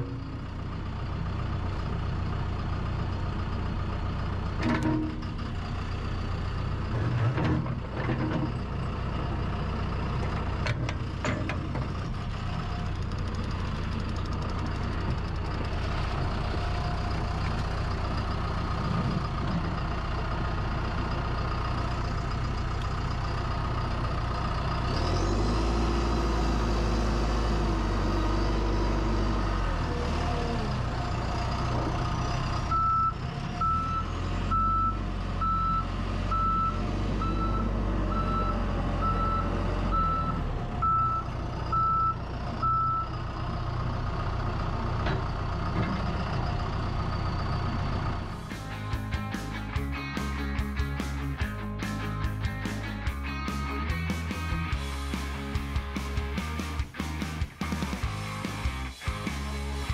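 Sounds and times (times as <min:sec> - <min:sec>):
diesel backhoe engine running: 0:00.0 - 0:59.9.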